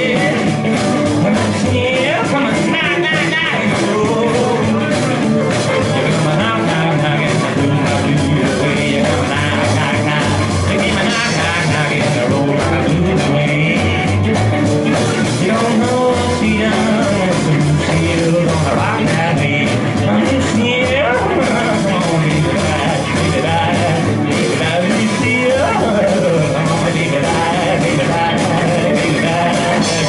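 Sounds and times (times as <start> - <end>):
acoustic guitar: 0.0 - 30.0
drum kit: 0.0 - 30.0
electric guitar: 0.0 - 30.0
man singing: 0.0 - 30.0
upright bass: 0.0 - 30.0.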